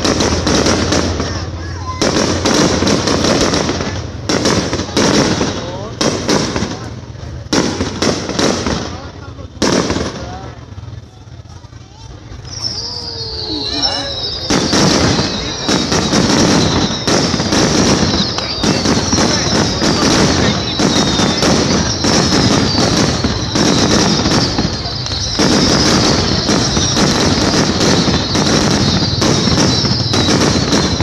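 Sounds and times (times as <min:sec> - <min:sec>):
fireworks whistles sliding down: 0:00.0 - 0:06.9, 0:11.7 - 0:31.0
fireworks bangs and crackles: 0:00.0 - 0:31.0.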